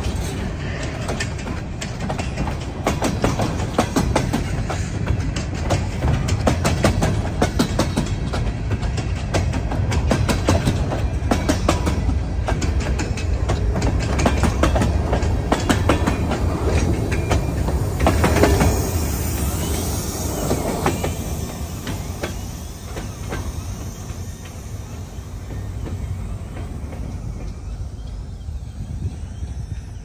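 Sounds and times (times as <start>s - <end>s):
train rumble: 0.0s - 30.0s
train wheels clacking on rail joints: 0.0s - 30.0s.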